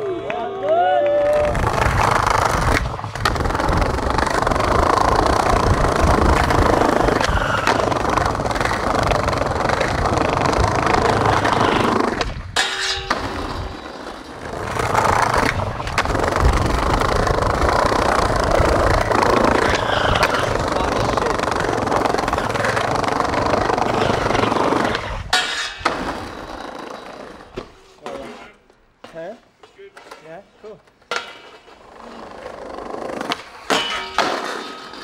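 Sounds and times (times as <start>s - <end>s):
skateboard wheels rolling on stone: 0.7s - 35.0s.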